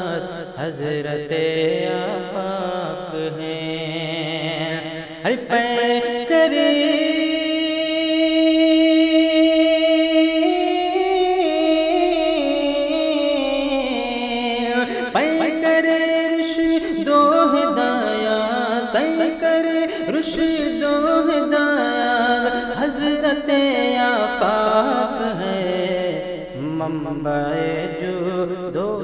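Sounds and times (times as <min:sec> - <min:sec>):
person singing long wordless notes: 0:00.0 - 0:29.0.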